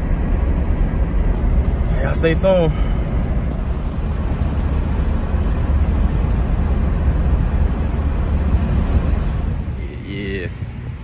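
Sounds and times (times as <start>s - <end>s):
road and engine rumble in a truck cab: 0.0s - 11.0s.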